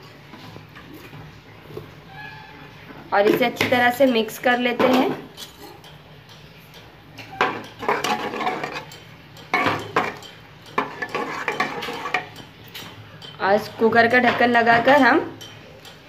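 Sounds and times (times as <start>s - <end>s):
metal spoon stirring in pot: 0.0s - 16.0s.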